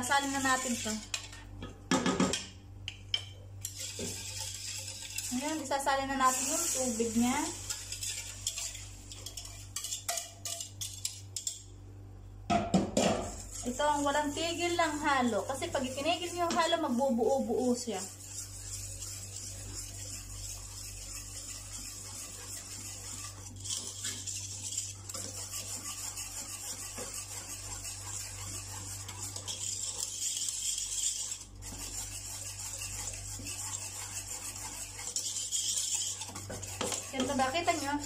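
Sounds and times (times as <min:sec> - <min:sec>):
spatula scraping pot of batter: 0:00.0 - 0:01.6, 0:03.6 - 0:11.2, 0:13.2 - 0:38.0.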